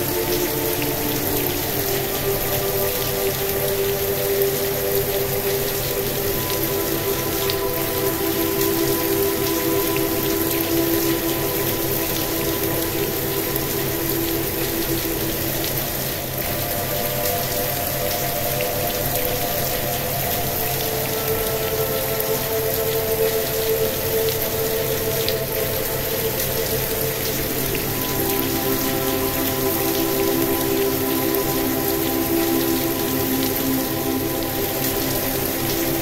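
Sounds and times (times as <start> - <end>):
ambient music with held tones: 0.0 - 36.0
gentle rain: 0.0 - 36.0.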